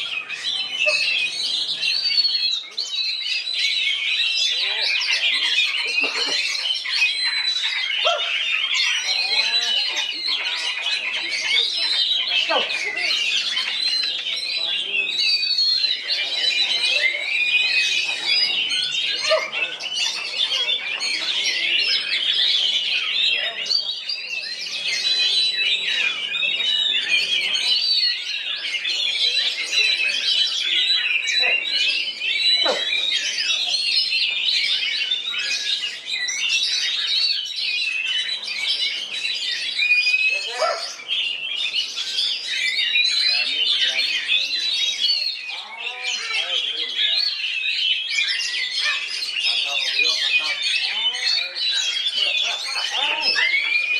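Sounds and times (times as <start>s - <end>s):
bird singing whistles and chirps: 0.0s - 53.9s.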